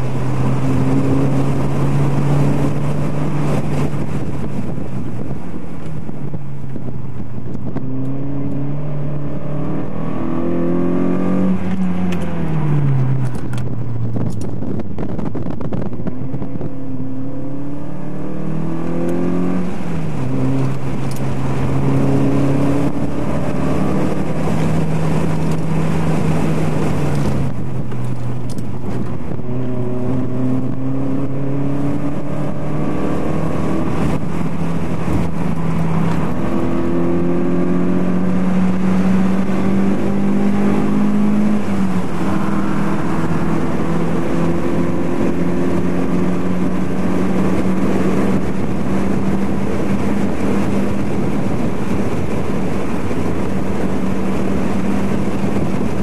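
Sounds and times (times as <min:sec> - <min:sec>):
car engine revving: 0:00.0 - 0:56.0
wind and road noise: 0:00.0 - 0:56.0.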